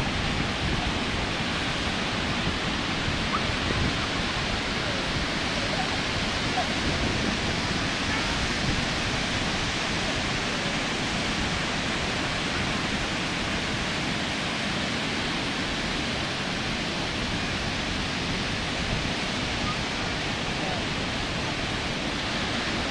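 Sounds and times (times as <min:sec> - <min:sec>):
ocean surf washing: 0:00.0 - 0:22.9.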